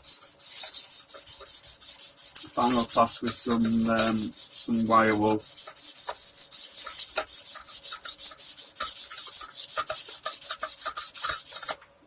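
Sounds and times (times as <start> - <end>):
sandpaper rasping on frets: 0.0 - 11.8.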